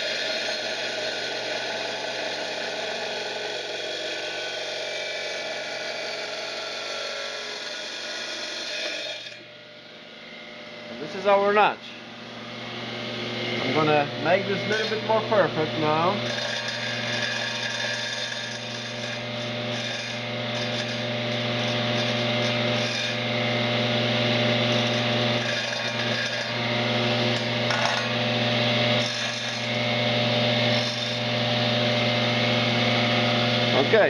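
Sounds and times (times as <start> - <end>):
power tool blade grinding tile: 0.0 - 9.5, 13.4 - 34.0.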